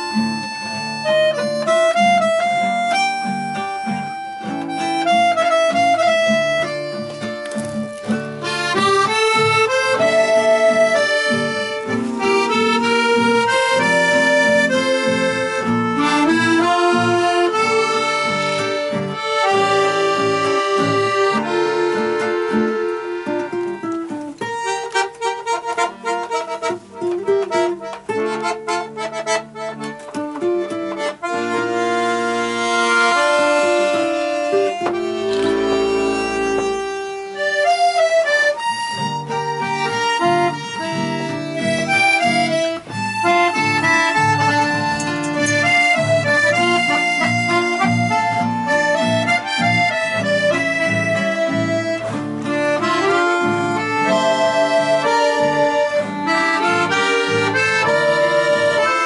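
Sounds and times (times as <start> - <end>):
violin: 0.0 - 26.8, 29.6 - 59.0
accordions playing: 0.0 - 59.0
strummed guitar chords: 0.0 - 59.0.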